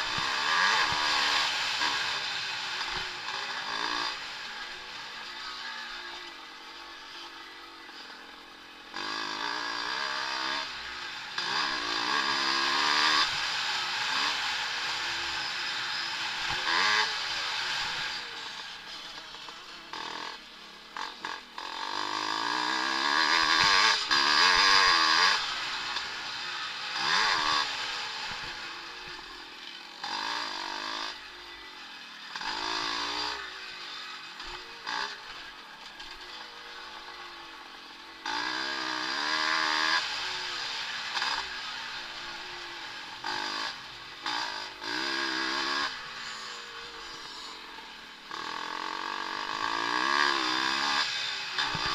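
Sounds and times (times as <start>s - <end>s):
motocross motorcycles revving: 0.0s - 51.9s.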